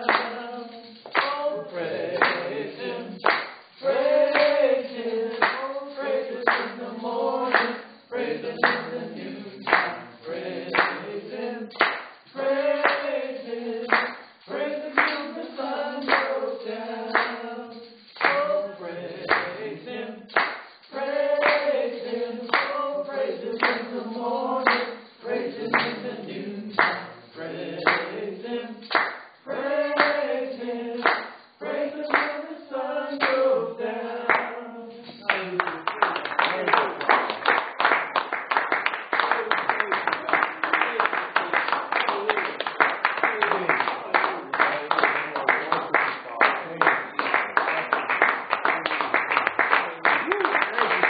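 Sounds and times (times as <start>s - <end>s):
hand claps: 0.0s - 28.2s, 28.8s - 32.5s, 33.2s - 33.6s, 34.3s - 51.0s
voices singing a worship song: 0.0s - 51.0s.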